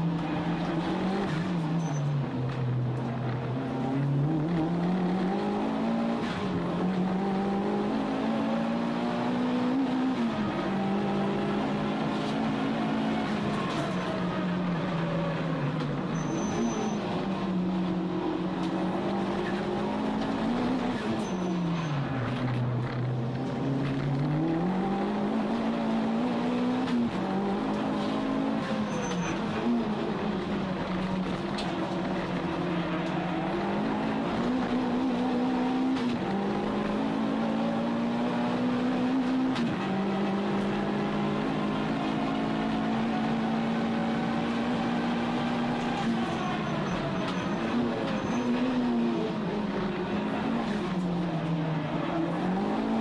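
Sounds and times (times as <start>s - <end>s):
car engine revving: 3.0s - 15.0s, 22.0s - 53.0s.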